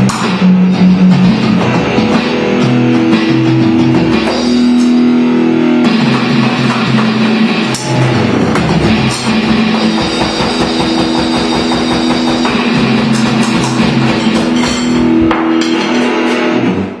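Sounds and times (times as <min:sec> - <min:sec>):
held guitar notes: 0:00.0 - 0:17.0
rapid drumming: 0:00.0 - 0:17.0.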